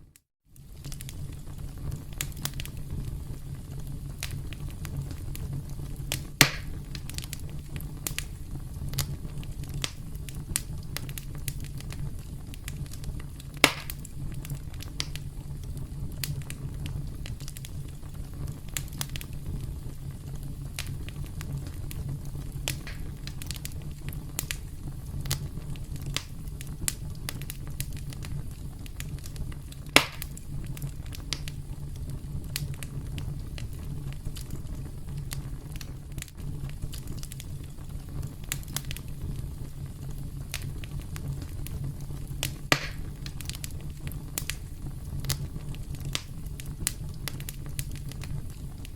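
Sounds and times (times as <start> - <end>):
low rumble of fire: 0.0 - 48.9
campfire crackling: 0.5 - 48.9
fire pops: 0.5 - 48.9.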